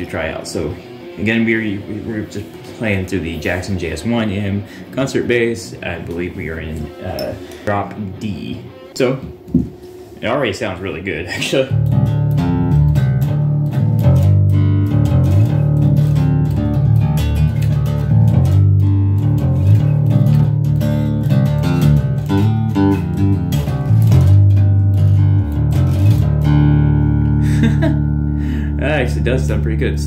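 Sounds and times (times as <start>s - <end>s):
electric bass riff: 0.0s - 30.0s.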